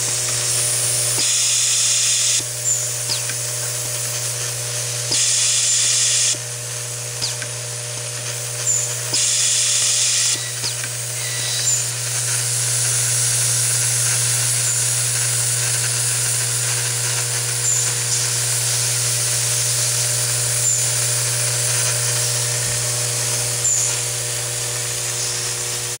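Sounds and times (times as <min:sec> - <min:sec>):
bowl feeder humming: 0:00.0 - 0:26.0
screwdriver whirring: 0:00.0 - 0:26.0.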